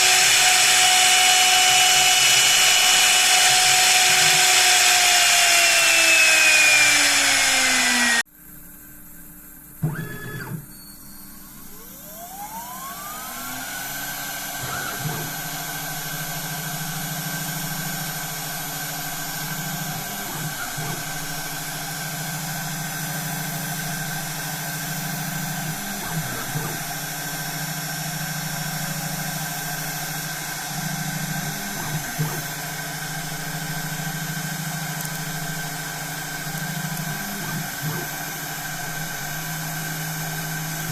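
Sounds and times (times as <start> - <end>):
machine spindle whining: 0.0 - 8.2, 9.8 - 40.9.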